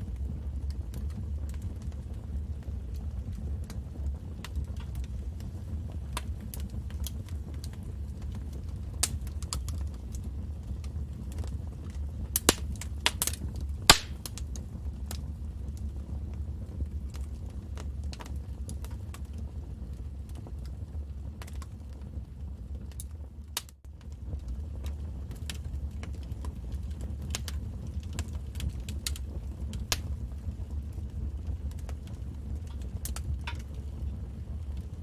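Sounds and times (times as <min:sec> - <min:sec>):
low rumble of burning fire: 0:00.0 - 0:35.0
wood fire pops and snaps: 0:00.0 - 0:35.0.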